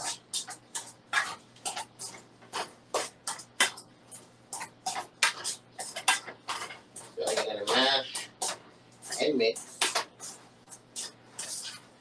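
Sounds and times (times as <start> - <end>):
metal spoon mashing potatoes: 0.0 - 12.0.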